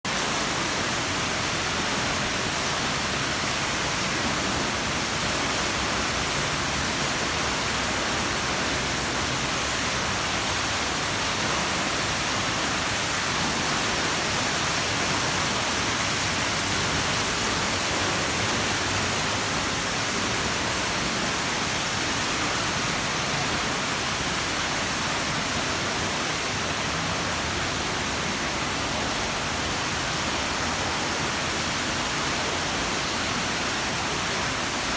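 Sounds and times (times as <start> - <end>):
water feature rushing and splashing: 0.1 - 34.9.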